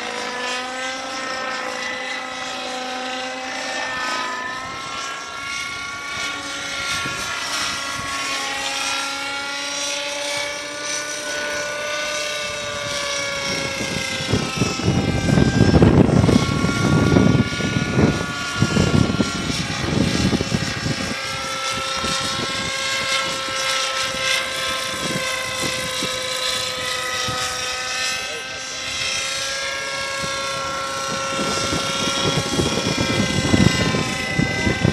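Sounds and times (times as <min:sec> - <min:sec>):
model helicopter whine: 0:00.0 - 0:34.9
wind buffeting microphone: 0:01.8 - 0:34.9.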